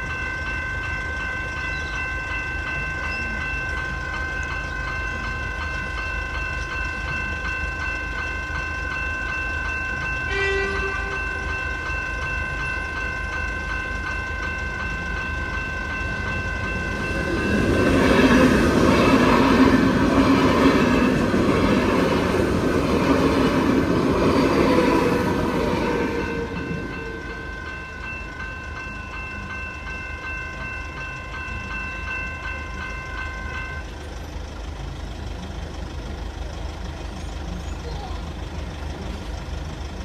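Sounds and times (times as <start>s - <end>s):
level crossing bell ringing: 0.0s - 34.0s
train approaching: 0.0s - 40.0s.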